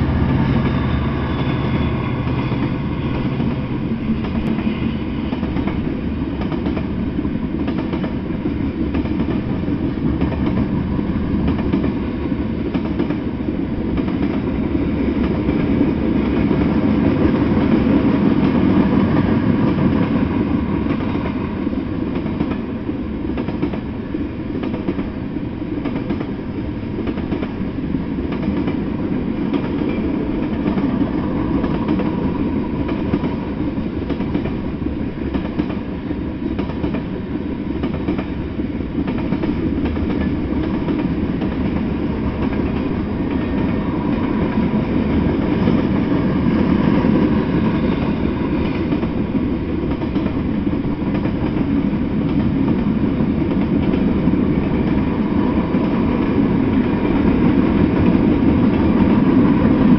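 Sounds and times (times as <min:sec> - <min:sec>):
diesel locomotive hum: 0:00.0 - 0:59.9
train wheels rumbling on rails: 0:00.0 - 0:59.9.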